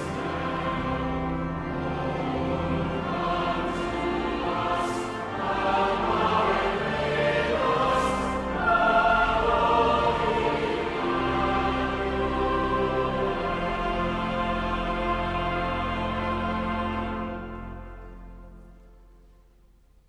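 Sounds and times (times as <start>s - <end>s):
choir singing held notes: 0.0s - 18.1s.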